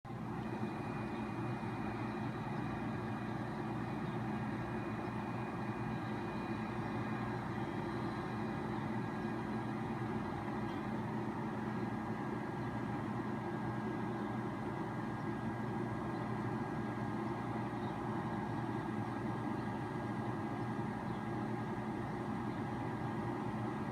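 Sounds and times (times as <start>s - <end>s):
truck engine humming: 0.1s - 23.9s.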